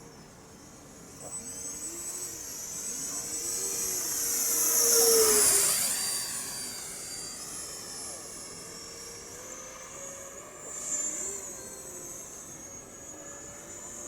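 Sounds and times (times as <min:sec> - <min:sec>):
model jet fan whining past: 0:00.0 - 0:14.0.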